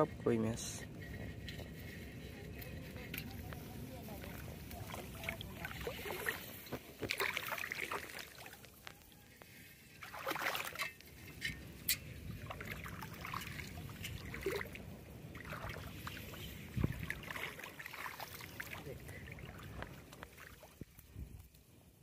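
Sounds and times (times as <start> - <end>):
water splashing and trickling: 0.0 - 21.6.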